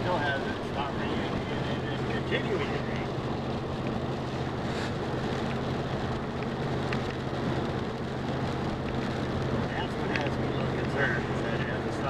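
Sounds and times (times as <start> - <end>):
low vehicle hum: 0.0 - 12.0
steady rain: 0.0 - 12.0.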